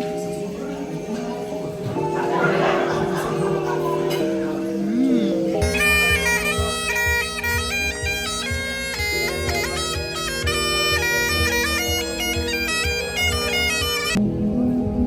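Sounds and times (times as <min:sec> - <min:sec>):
bagpipes playing melody: 0:00.0 - 0:14.2.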